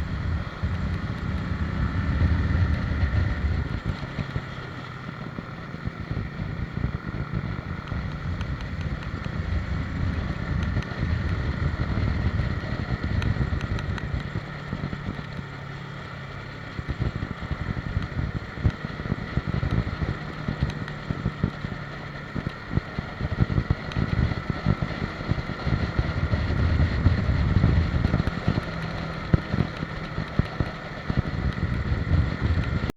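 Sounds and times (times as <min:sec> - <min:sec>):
wind buffeting microphone: 0:00.0 - 0:15.6, 0:16.5 - 0:32.9
motorcycle riding: 0:00.0 - 0:32.9.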